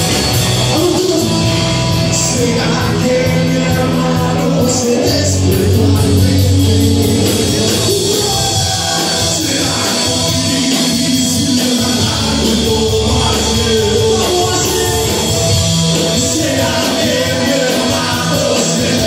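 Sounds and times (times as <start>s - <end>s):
live rock band playing: 0.0s - 19.0s
man singing into a microphone: 0.7s - 19.0s.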